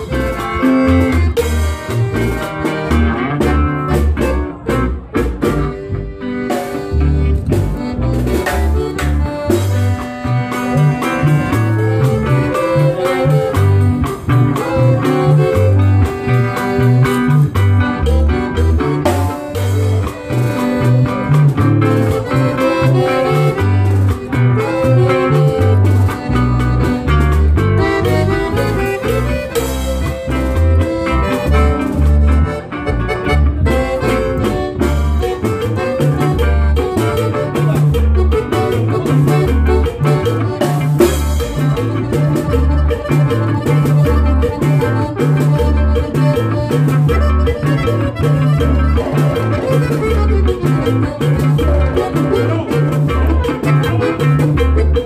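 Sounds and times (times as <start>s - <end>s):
accordion melody: 0.0s - 55.0s
electric bass line: 0.0s - 55.0s
strummed guitar: 0.0s - 55.0s.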